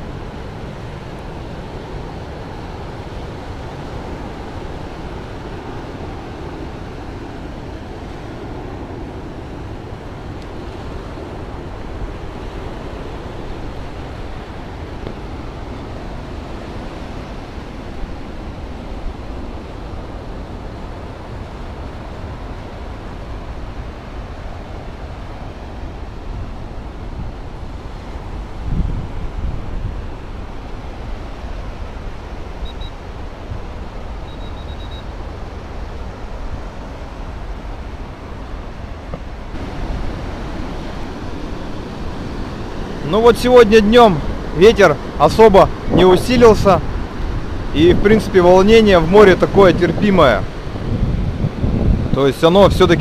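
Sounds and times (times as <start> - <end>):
waves washing up beach: 0.0 - 53.0.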